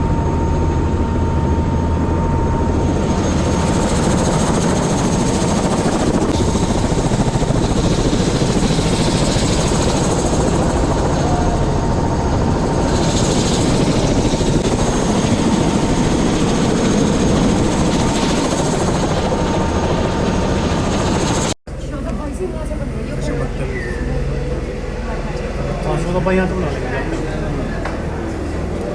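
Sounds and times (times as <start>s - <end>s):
helicopter rotor and engine: 0.0s - 28.9s.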